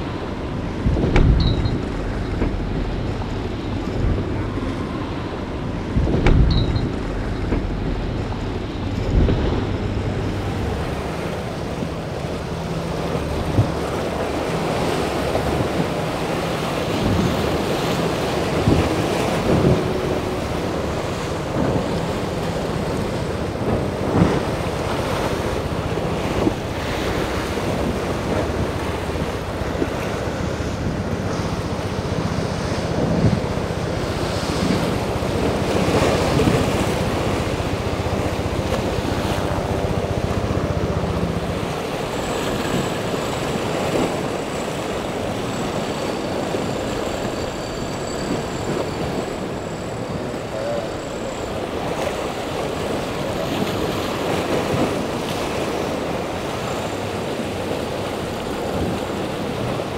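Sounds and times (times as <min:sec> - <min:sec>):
wind buffeting microphone: 0:00.0 - 0:50.5
boat outboard motors running: 0:00.0 - 0:59.9
rough surf: 0:00.0 - 0:59.9.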